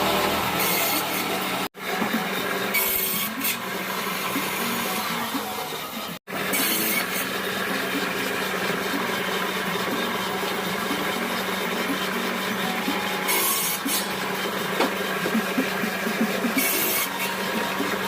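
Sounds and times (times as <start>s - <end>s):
power tool cutting wood: 0.0s - 18.0s.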